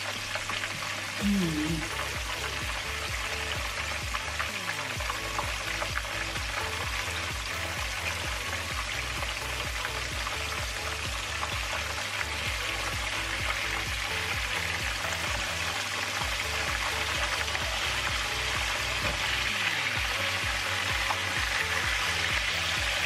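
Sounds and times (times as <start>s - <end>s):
background music: 0.0s - 23.0s
fish sizzling in oil: 0.0s - 23.0s.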